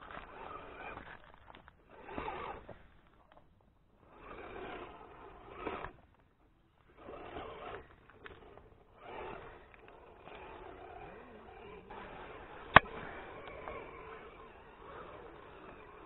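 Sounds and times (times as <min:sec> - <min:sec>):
tyres crunching over frozen mud: 0:00.0 - 0:16.0.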